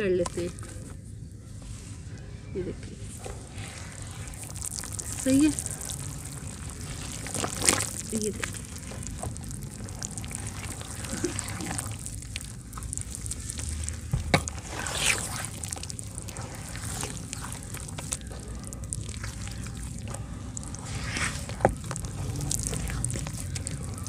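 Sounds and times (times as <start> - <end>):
hand squelching mud in bucket: 3.0 - 24.0.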